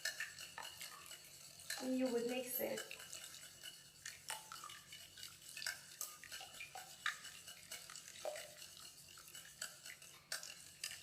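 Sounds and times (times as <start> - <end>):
utensil clinking against bowl: 0.0 - 11.0.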